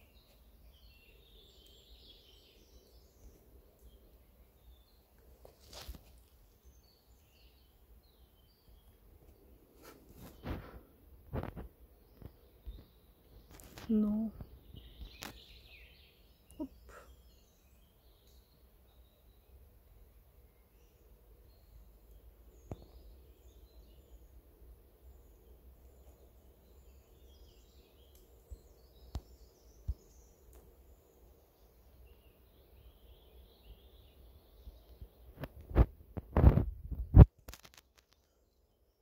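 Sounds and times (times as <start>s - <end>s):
faint birdsong: 0.0s - 39.0s.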